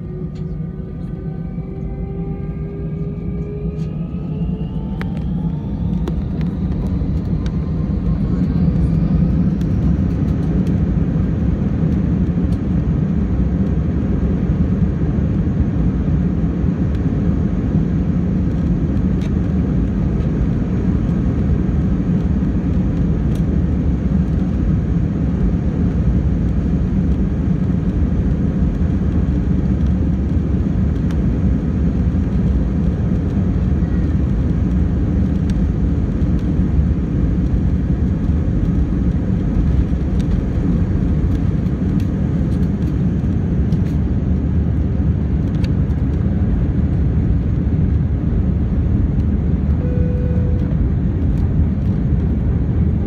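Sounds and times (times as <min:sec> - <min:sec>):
airliner engines rumbling in cabin: 0:00.0 - 0:53.0.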